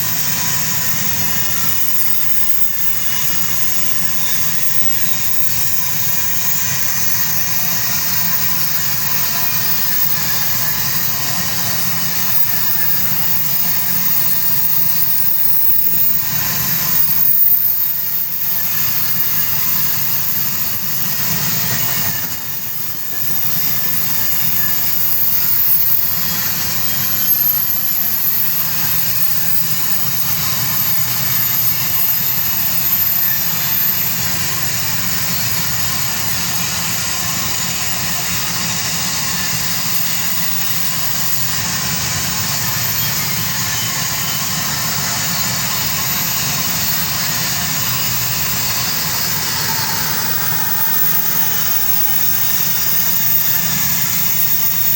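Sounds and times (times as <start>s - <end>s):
train rumbling: 0.0s - 54.9s.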